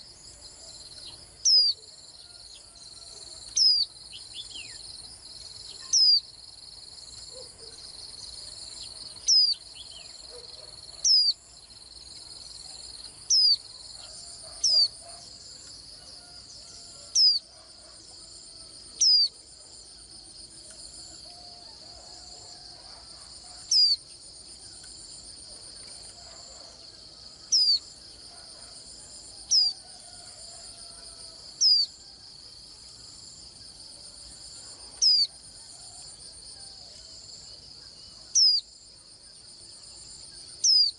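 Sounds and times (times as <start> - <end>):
pulsing insect chorus: 0.0 - 40.9.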